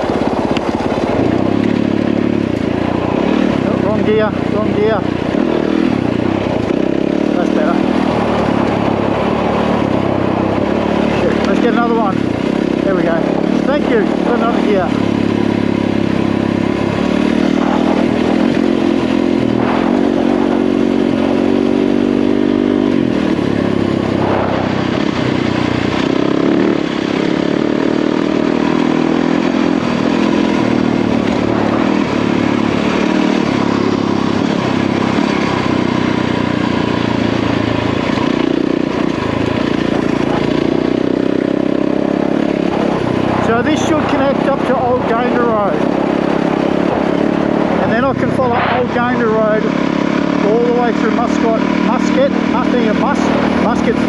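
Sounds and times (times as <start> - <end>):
dirt bike engine accelerating: 0.0 - 54.0.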